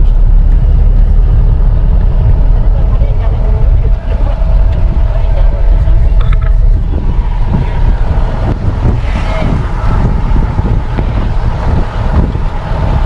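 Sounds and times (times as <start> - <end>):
engine and road rumble: 0.0 - 13.0
wind buffeting microphone: 0.0 - 13.0.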